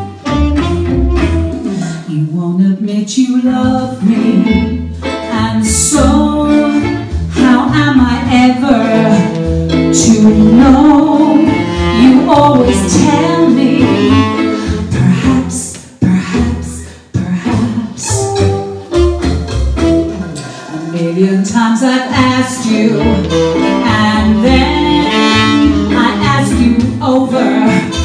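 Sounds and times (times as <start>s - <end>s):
woman singing: 1.6s - 18.6s, 20.9s - 28.0s
deep bass notes: 3.5s - 28.0s.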